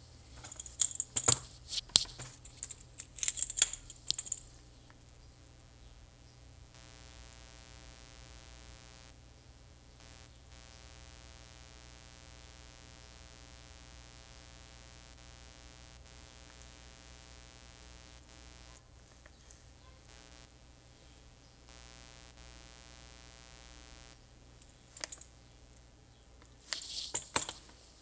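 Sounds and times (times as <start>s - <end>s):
mains hum: 0.0s - 28.0s.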